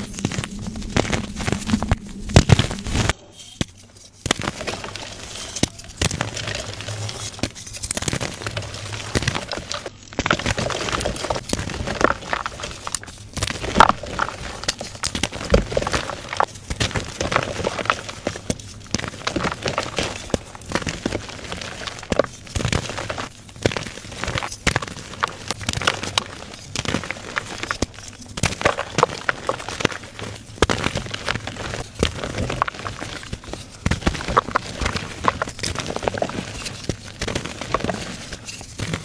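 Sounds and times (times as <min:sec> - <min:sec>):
chalk blocks crunching: 0:00.0 - 0:39.0.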